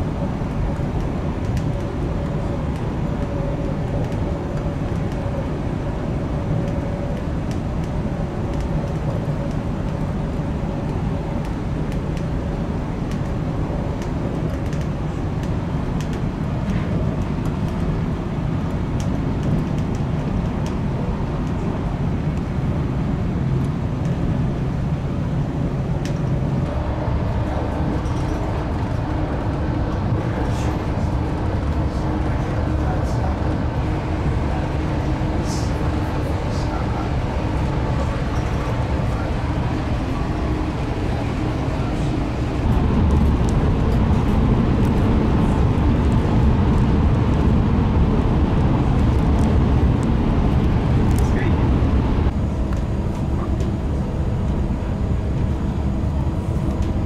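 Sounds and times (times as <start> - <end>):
train running low rumble: 0.0 - 57.0.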